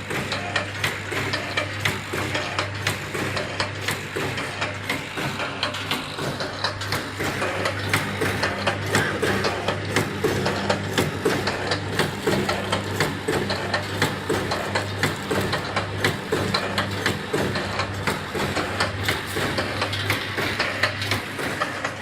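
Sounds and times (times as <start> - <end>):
low motor hum: 0.0 - 22.0
machine clicking and clacking: 0.0 - 22.0.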